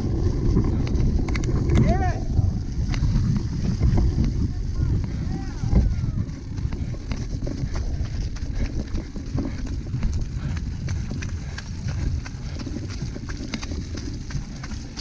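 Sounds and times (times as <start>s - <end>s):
bike rattling and clicking: 0.0s - 15.0s
wind and tyre rumble: 0.0s - 15.0s.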